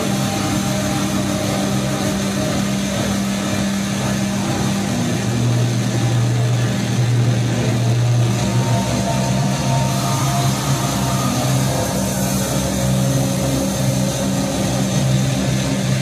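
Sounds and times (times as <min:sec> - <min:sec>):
low drone tones: 0:00.0 - 0:16.0.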